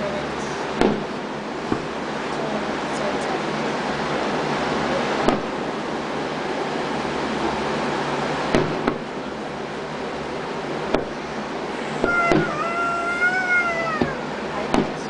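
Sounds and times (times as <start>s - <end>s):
steady background hiss: 0.0s - 15.0s
distant firework bangs: 0.4s - 2.9s, 3.6s - 6.2s, 6.8s - 9.4s, 10.2s - 15.0s.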